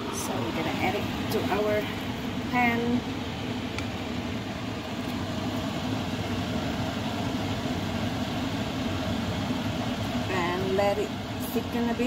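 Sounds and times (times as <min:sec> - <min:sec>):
sauce boiling in frying pan: 0:00.0 - 0:12.0
steady mechanical hum: 0:00.0 - 0:12.0.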